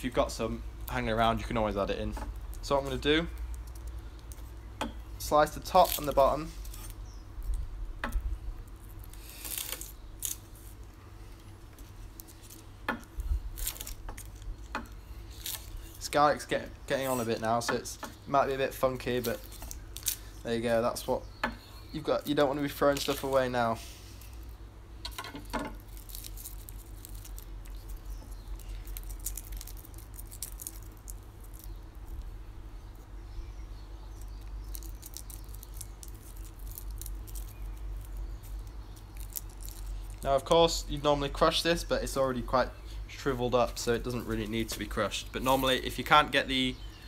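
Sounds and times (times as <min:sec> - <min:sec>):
garlic skins crackling: 0:00.0 - 0:47.0
steady low hum: 0:00.0 - 0:47.0.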